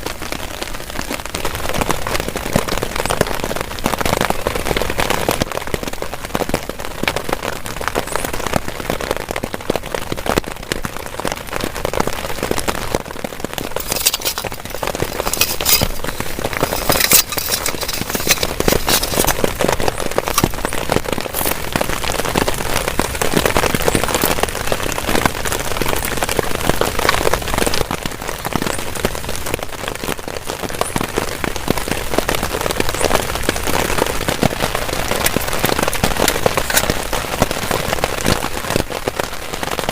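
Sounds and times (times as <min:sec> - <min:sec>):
heavy rain on a tarp: 0:00.0 - 0:39.9.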